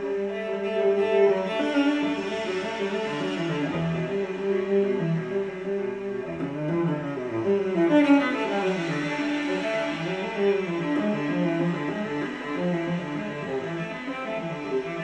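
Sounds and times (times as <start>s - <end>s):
classical string music: 0.0s - 15.0s.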